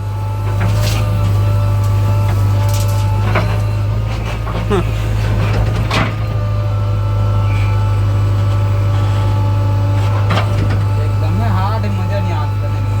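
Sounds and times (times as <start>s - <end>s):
diesel engine humming: 1.3s - 13.0s.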